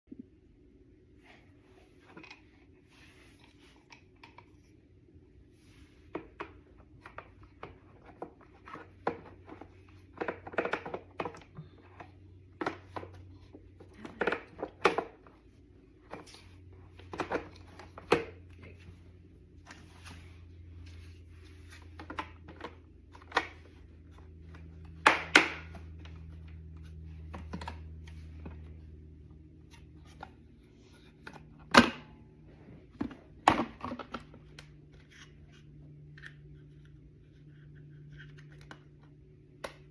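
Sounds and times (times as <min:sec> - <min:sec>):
faint low hum: 0:00.1 - 0:39.9.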